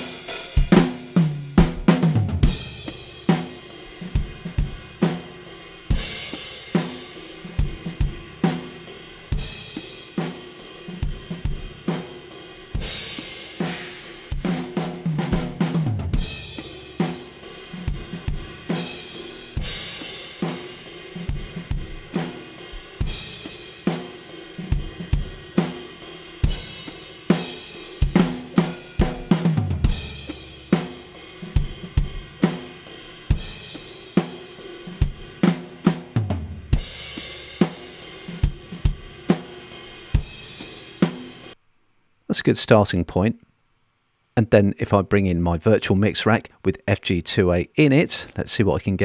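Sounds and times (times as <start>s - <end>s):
drum kit groove: 0.0s - 41.6s.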